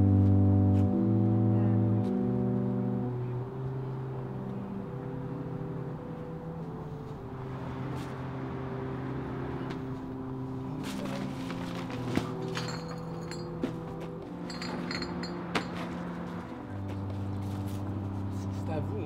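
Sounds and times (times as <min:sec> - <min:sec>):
soft slow low music: 0:00.0 - 0:19.0.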